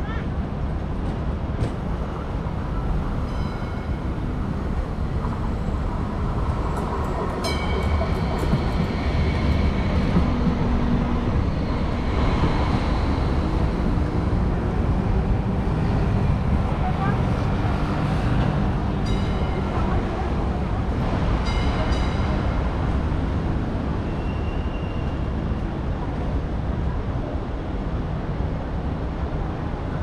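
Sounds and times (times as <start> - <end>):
wheels rumbling on rails: 0.0 - 30.0.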